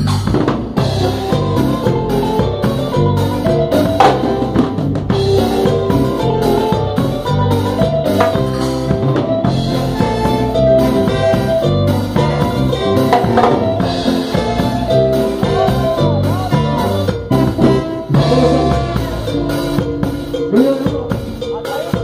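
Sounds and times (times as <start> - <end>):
drum kit and percussion beat: 0.0 - 22.0
live band playing: 0.0 - 22.0.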